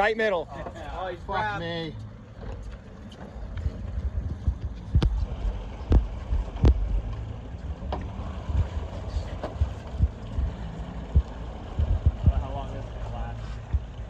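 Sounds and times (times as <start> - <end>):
boat engines humming: 0.0 - 14.0
wind buffeting microphone: 2.1 - 14.0.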